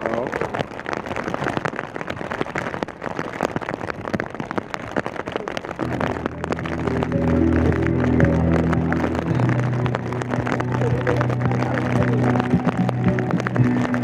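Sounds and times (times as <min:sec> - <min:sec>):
raindrops ticking on a surface: 0:00.0 - 0:14.0.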